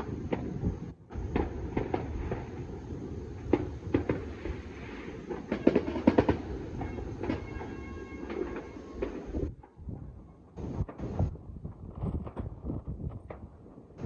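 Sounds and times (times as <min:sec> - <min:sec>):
distant fireworks bangs and pops: 0:00.0 - 0:14.0.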